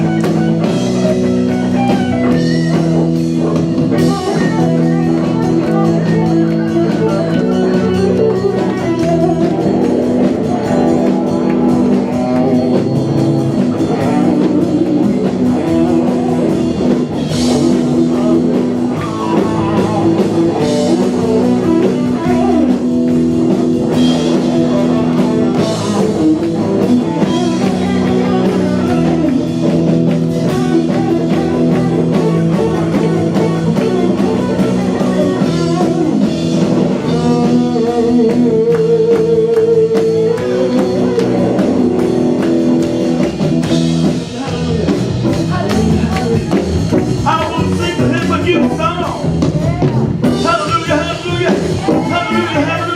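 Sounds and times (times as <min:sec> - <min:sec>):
drum kit beat: 0:00.0 - 0:52.9
electric guitar: 0:00.0 - 0:52.9.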